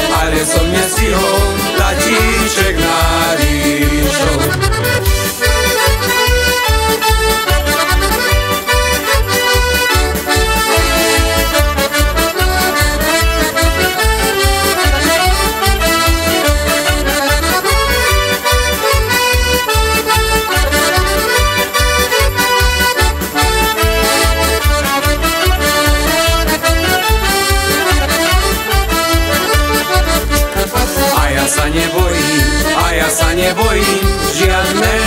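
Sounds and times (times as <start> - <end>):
accordion melody: 0.0 - 35.0
quick bass beat: 0.0 - 35.0.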